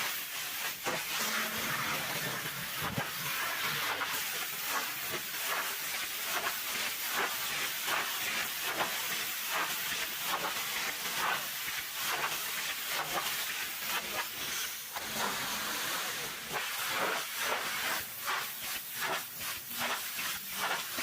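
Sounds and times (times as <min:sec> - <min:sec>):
pressure washer spraying water: 0:00.0 - 0:21.0.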